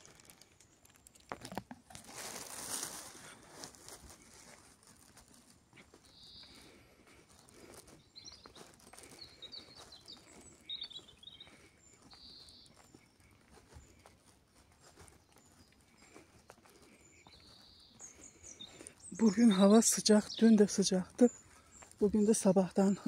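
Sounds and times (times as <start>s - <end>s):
small birds chirping: 3.2s - 23.0s.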